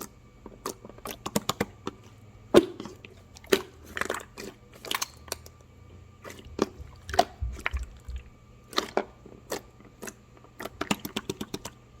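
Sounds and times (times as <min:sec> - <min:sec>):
chewing crunches: 0:00.0 - 0:02.2, 0:02.8 - 0:05.6, 0:06.2 - 0:11.8.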